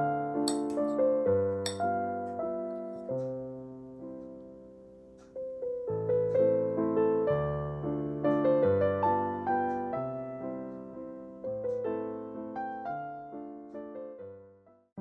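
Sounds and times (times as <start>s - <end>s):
solo piano playing slowly: 0.0s - 15.0s.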